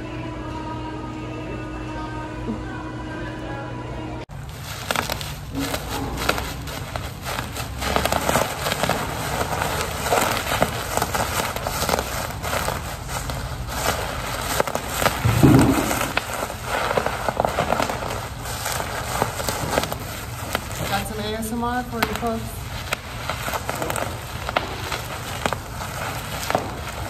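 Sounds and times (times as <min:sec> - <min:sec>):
bubble wrap popping: 0:04.3 - 0:27.0
plastic rustling: 0:04.3 - 0:27.0.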